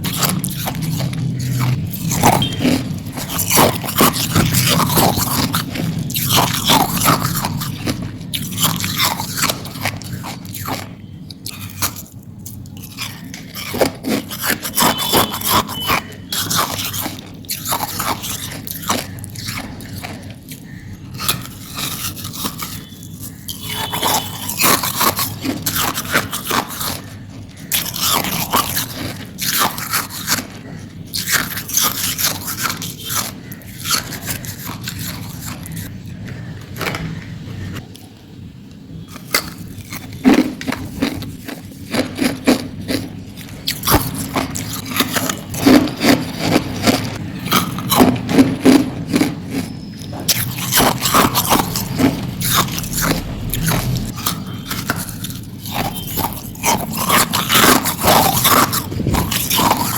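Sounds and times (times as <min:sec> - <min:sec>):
ice being chewed: 0:00.0 - 0:37.8, 0:39.0 - 0:59.9.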